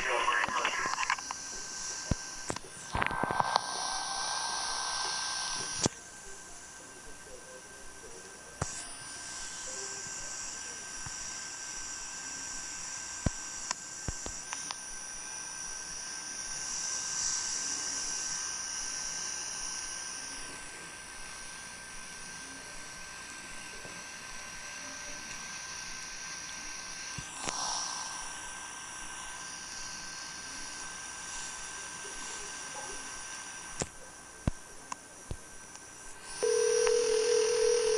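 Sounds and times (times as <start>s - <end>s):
broadcast line hiss: 0.0s - 37.9s
faint steady tones: 0.0s - 37.9s
thin high whine: 0.0s - 37.9s.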